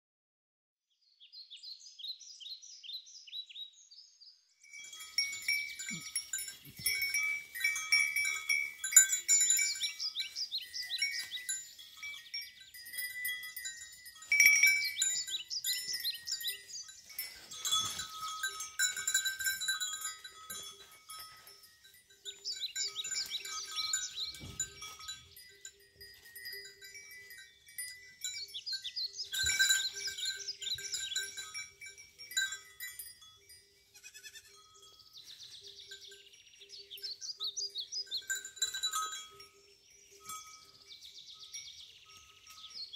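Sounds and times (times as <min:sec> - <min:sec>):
birds singing: 0:00.9 - 0:42.9.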